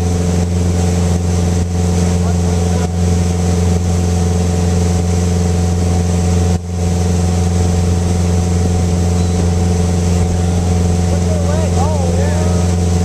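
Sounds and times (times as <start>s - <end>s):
motorboat engine drone: 0.0s - 13.0s
wake rushing: 0.0s - 13.0s.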